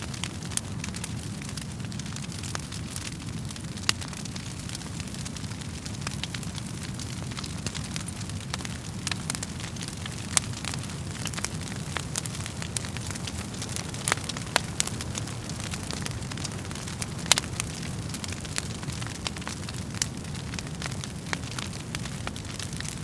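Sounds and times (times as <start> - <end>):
burning wood popping: 0.0 - 23.0
low rumble of flames: 0.0 - 23.0
wood fire crackling: 0.0 - 23.0.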